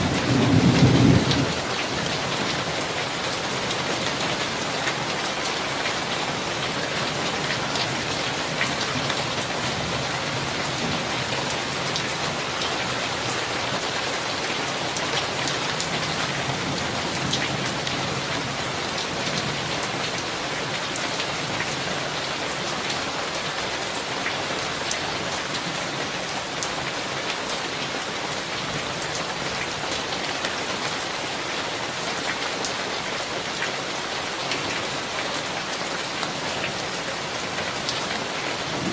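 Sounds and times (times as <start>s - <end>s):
raindrops ticking on a surface: 0.0s - 38.9s.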